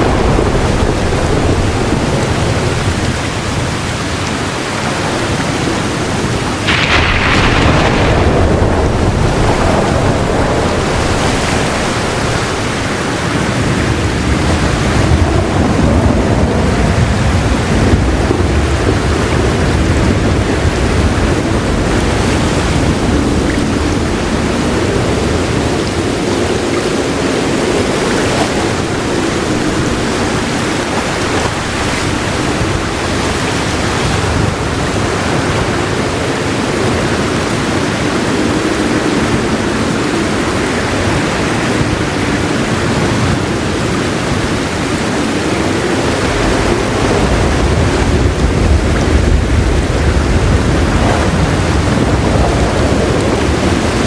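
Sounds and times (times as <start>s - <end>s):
heavy rain falling: 0.0s - 54.0s
rolling thunder: 0.0s - 54.0s.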